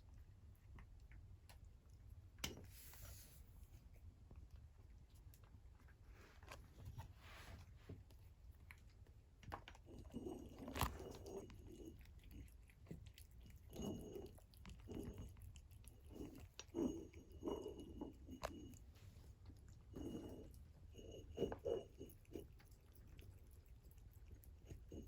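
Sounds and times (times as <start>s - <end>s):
cat chewing and crunching: 0.0s - 2.4s, 3.7s - 25.0s.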